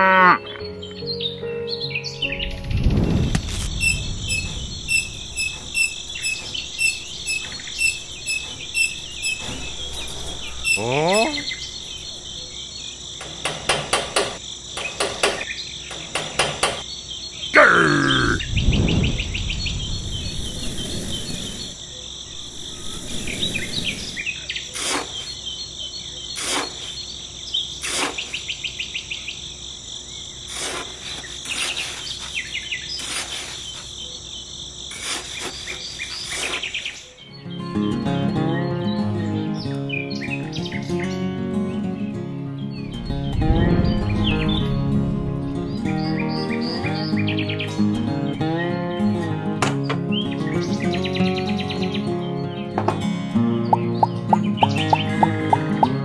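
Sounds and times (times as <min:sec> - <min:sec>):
birds calling: 0:00.0 - 0:02.6, 0:03.7 - 0:56.0
crickets chirping: 0:00.2 - 0:49.2, 0:49.9 - 0:56.0.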